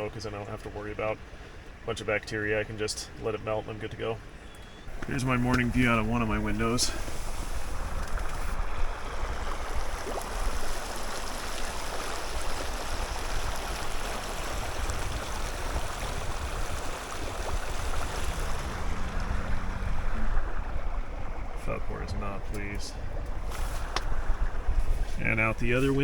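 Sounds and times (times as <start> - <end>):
creek water running: 0.0 - 26.0.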